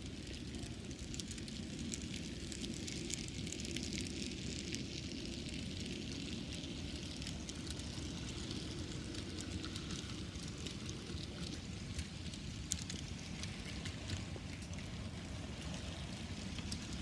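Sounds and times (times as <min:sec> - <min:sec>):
model train cars rumbling: 0:00.0 - 0:17.0.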